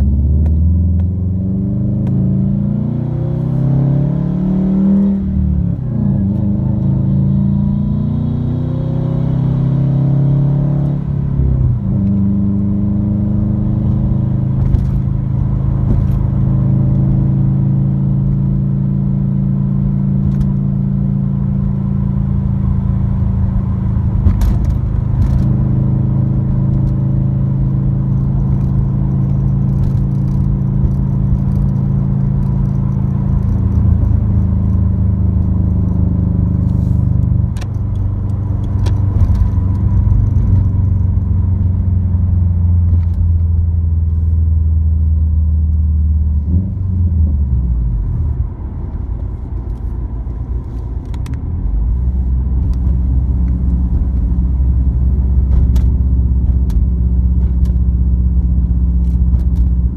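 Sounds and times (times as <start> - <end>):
car engine revving through gears: 0.0 - 44.2, 46.0 - 59.9.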